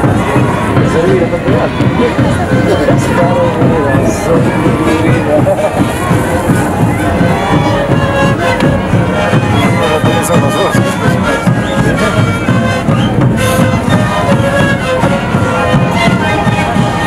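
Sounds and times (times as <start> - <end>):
bass drum beats: 0.0 - 17.0
panpipes playing melody: 0.0 - 17.0.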